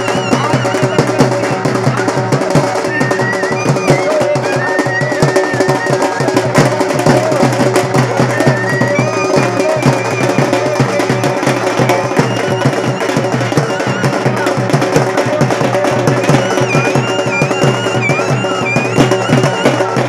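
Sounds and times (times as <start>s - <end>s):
drums beating fast rhythm: 0.0s - 20.0s
high wavering melody: 0.0s - 20.0s.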